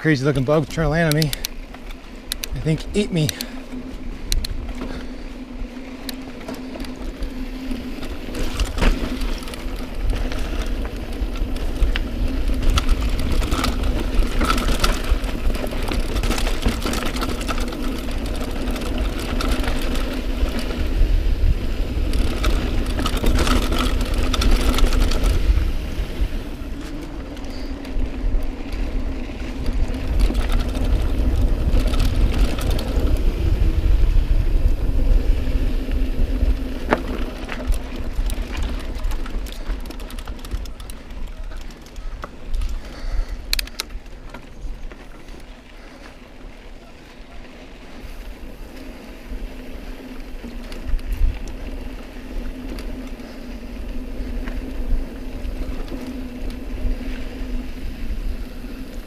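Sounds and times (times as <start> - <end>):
mountain bike knocking and rattling: 0.0 - 59.0.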